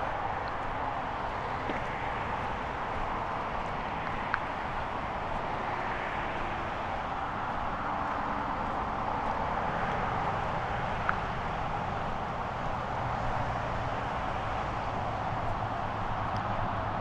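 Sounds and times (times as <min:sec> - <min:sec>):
distant road traffic roar: 0:00.0 - 0:17.0.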